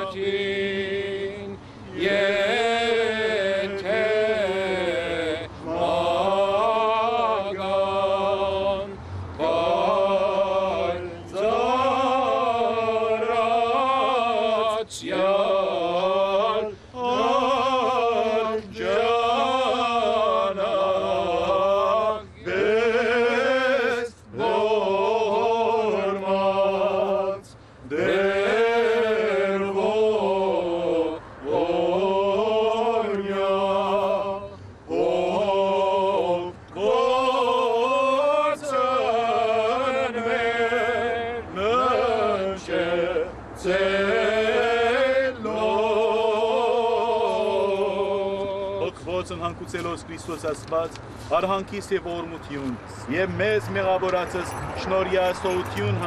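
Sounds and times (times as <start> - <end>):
man chanting a hymn: 0.0 - 56.0.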